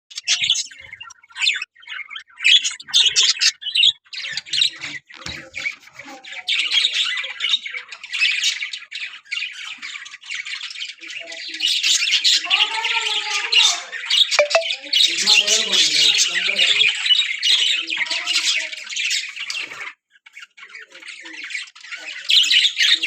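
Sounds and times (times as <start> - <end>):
budgerigars chattering and squawking: 0.1 - 23.0.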